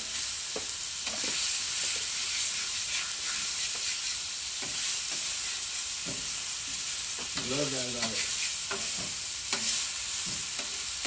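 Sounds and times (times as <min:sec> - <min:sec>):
steaks sizzling on griddle: 0:00.0 - 0:11.0
utensil tapping griddle: 0:00.0 - 0:11.0.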